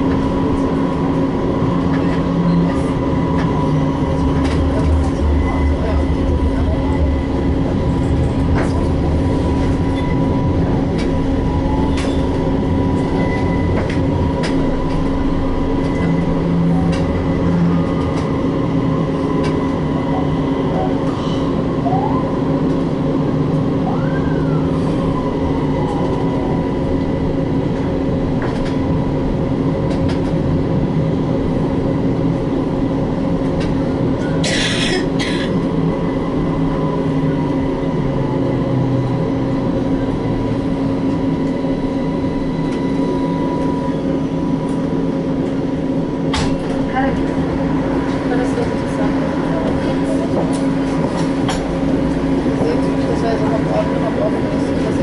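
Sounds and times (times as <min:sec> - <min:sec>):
tram rolling noise: 0:00.0 - 0:55.0.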